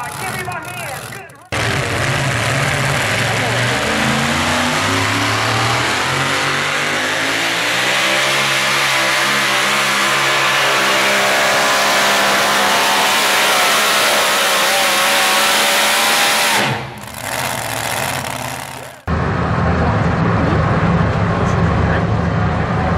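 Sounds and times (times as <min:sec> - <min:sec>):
pulling truck engine at full throttle: 0:00.0 - 0:22.9.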